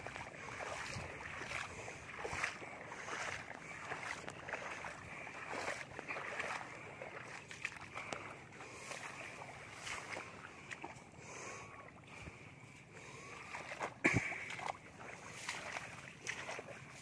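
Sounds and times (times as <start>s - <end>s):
sloshing steps in mud: 0.0s - 17.0s.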